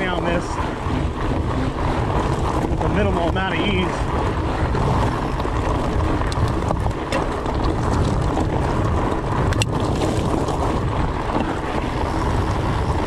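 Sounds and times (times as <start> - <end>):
bike clicks and rattles: 0.0 - 13.0
bike tyres rumbling on rocks: 0.0 - 13.0
wind buffeting microphone: 0.0 - 13.0.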